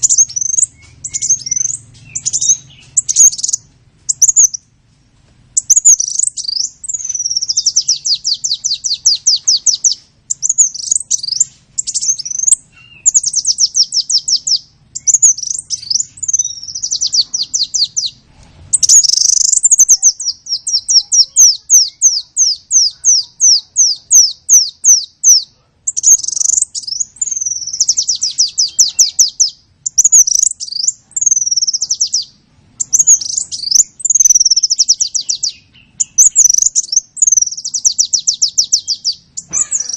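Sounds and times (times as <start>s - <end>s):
songbird trilling: 0.0s - 4.7s, 5.6s - 39.9s.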